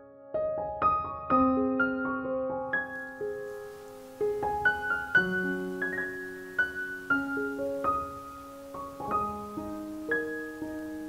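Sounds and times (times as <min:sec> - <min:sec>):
slow solo piano: 0:00.0 - 0:11.0.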